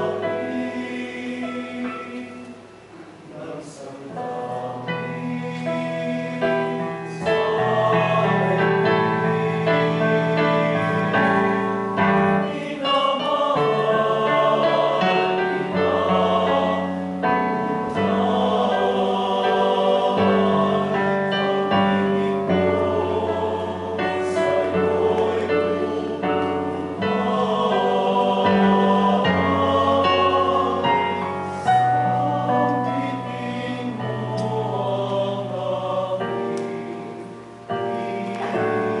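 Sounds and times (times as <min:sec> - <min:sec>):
choir singing a hymn: 0:00.0 - 0:39.0
keyboard accompaniment: 0:04.1 - 0:39.0.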